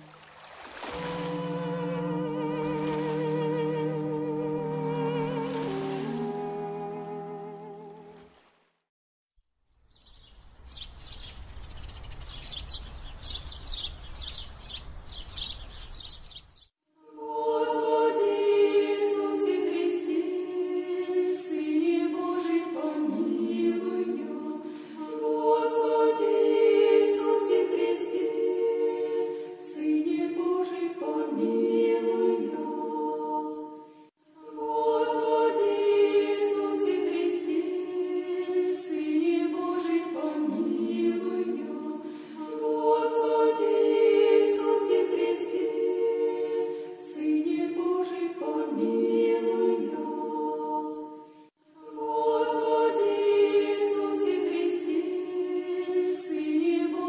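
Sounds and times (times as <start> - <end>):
church choir chanting: 0.8 - 8.1, 17.0 - 57.0.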